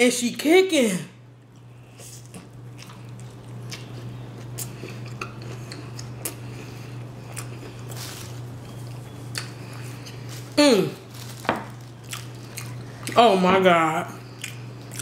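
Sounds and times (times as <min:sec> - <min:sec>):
steady low hum: 0:00.0 - 0:15.0
person chewing with crunches: 0:01.4 - 0:13.4, 0:14.2 - 0:15.0.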